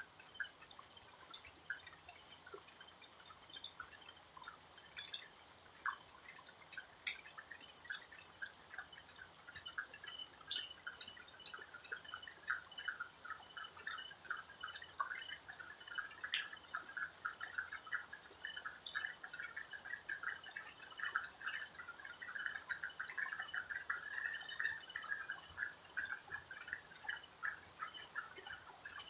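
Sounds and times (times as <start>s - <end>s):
frogs clicking: 0.0s - 29.0s.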